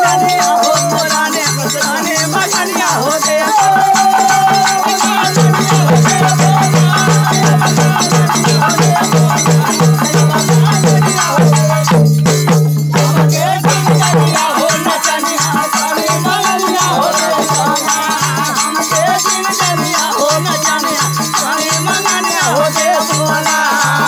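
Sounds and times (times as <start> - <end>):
fast drum beat: 0.0 - 24.0.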